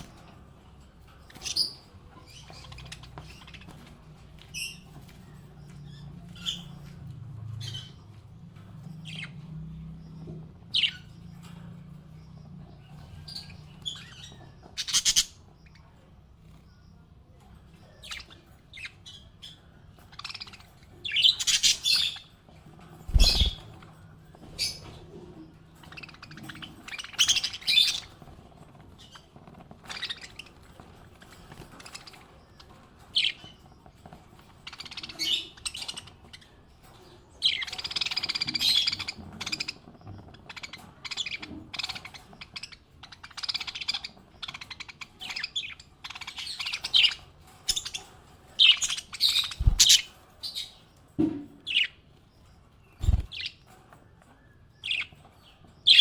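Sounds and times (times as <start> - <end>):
parrots chirping and chattering: 0.0 - 56.0.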